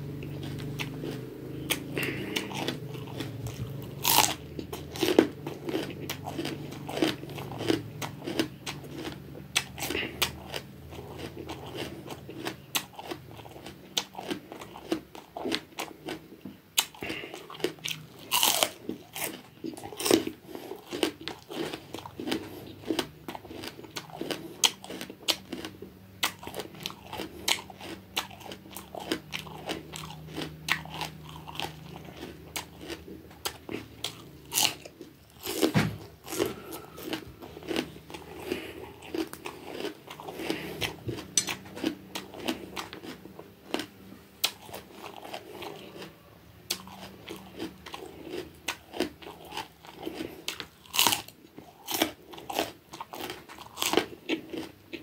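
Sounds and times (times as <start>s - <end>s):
crunching raw bitter gourd: 0.0s - 55.0s.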